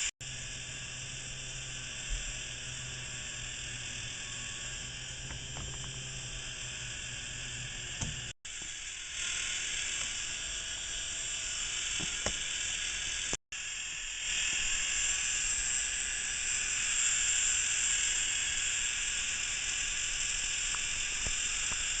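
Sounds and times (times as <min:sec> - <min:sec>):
plastic gears whirring: 0:00.5 - 0:13.4, 0:14.2 - 0:22.0.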